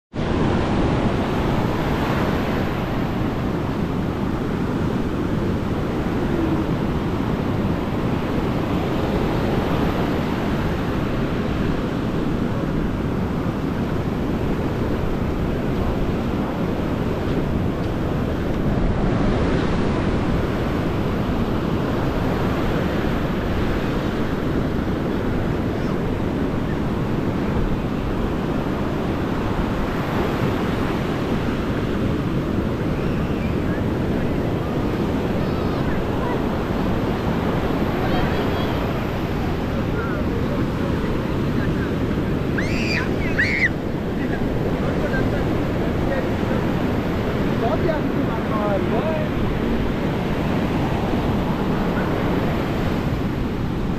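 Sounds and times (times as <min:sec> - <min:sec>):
ocean surf breaking: 0:00.1 - 0:53.9
wind buffeting microphone: 0:00.1 - 0:53.9.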